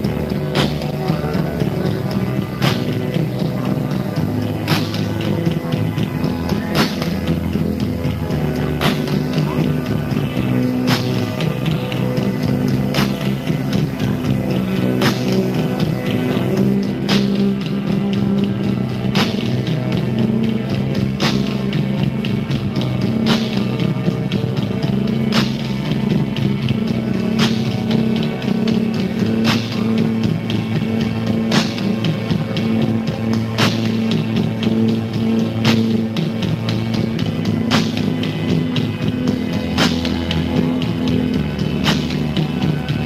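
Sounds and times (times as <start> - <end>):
sustained low rock chords: 0.0 - 43.0.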